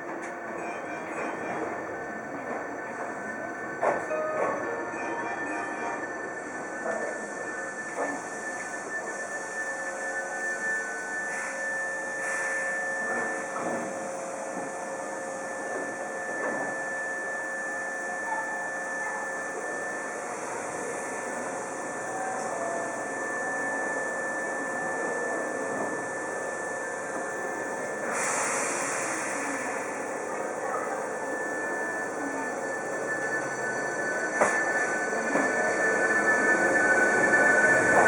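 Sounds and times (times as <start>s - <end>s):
train equipment humming: 0.0s - 38.0s.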